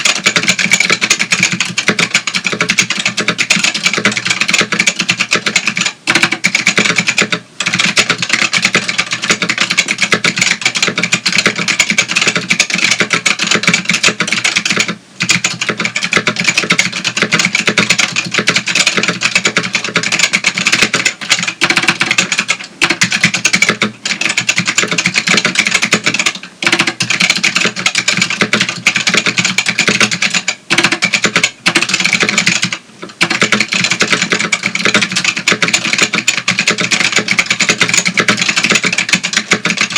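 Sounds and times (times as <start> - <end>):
fast clicky keyboard typing: 0.0 - 39.9.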